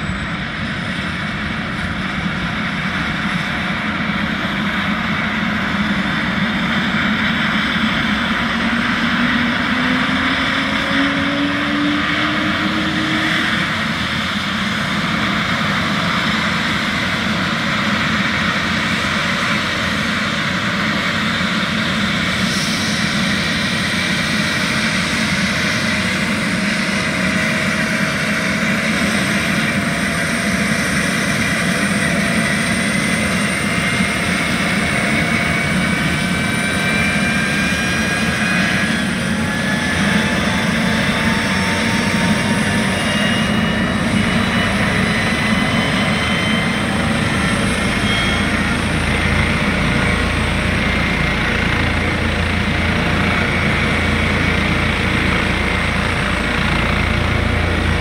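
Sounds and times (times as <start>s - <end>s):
turbine whine rising in pitch: 0.0s - 17.2s, 19.6s - 27.4s, 30.7s - 58.0s
helicopter engines starting up: 0.0s - 58.0s.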